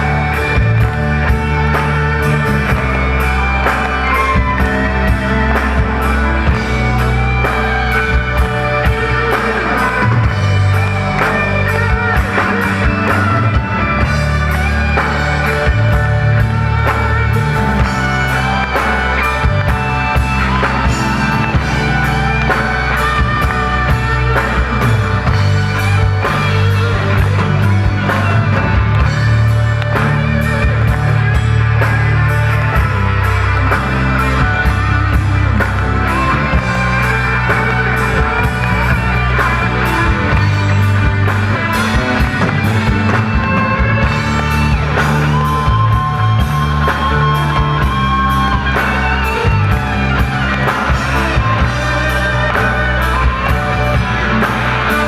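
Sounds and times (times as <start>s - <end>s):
bass: 0.0s - 55.0s
electric guitar: 0.0s - 55.0s.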